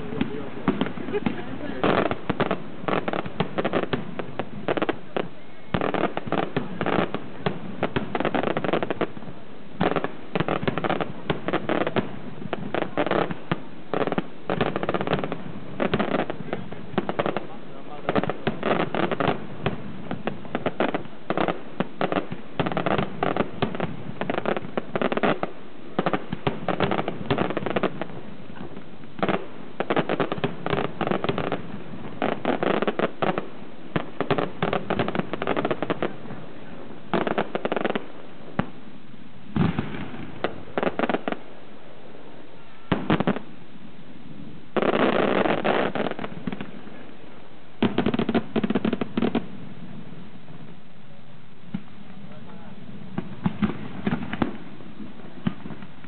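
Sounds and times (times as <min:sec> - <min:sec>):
firework crackling: 0:00.0 - 0:56.0.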